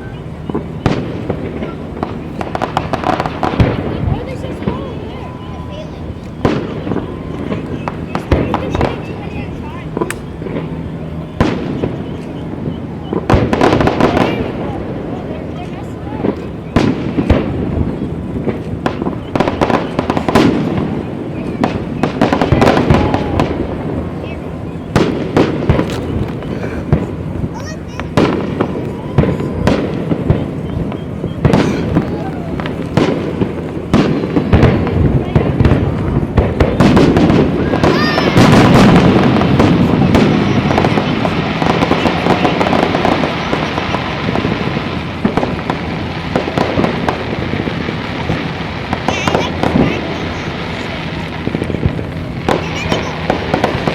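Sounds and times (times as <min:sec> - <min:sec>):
fireworks bursting with bangs: 0:00.0 - 0:53.9
steady low rumble: 0:00.0 - 0:53.9.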